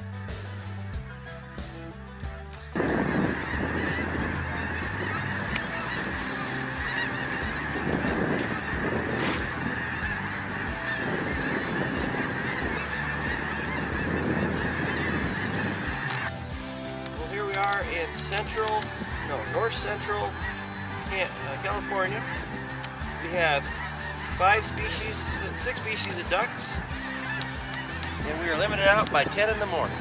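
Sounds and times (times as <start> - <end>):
geese honking: 2.3 - 30.0.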